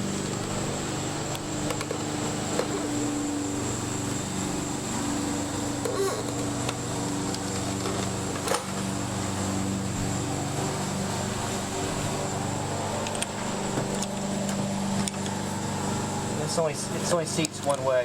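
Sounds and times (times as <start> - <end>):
high whine: 0.0 - 18.0
mechanical hum: 0.0 - 18.0.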